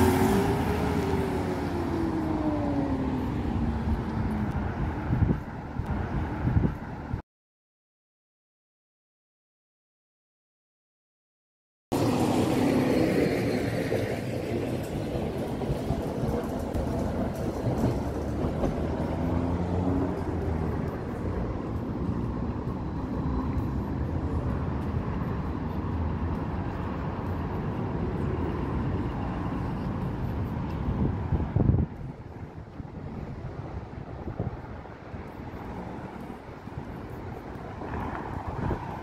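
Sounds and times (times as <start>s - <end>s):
tram running past: 0.0s - 7.1s, 11.9s - 39.0s
rumble of passing cars: 0.0s - 7.2s, 11.9s - 39.0s.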